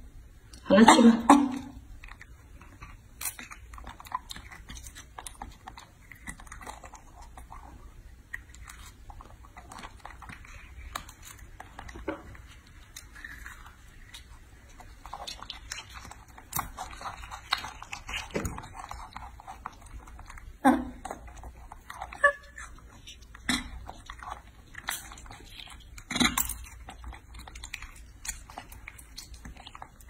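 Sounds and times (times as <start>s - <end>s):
monkey biting and chewing fruit: 0.4s - 30.0s
fruit shells crackling: 1.3s - 30.0s.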